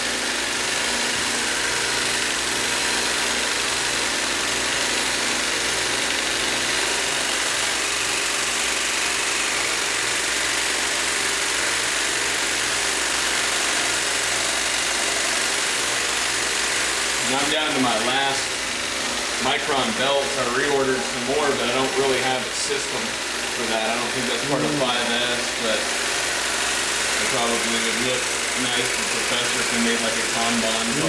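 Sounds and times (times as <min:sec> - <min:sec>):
belt grinder running: 0:00.0 - 0:31.0.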